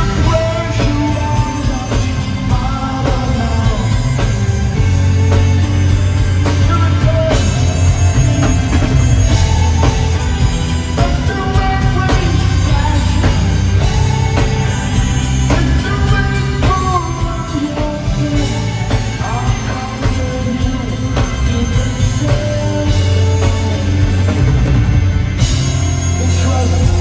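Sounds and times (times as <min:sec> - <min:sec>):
person singing: 0:00.0 - 0:05.6, 0:06.4 - 0:24.5
rock band playing live: 0:00.0 - 0:27.0.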